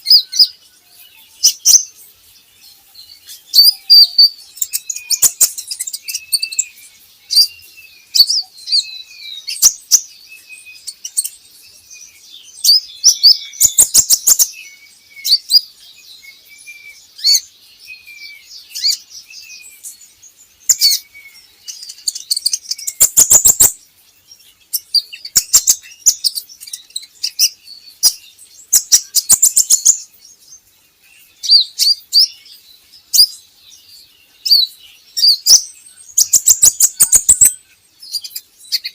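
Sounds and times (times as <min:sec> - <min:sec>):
bird singing chips and twitters: 0:00.0 - 0:38.9.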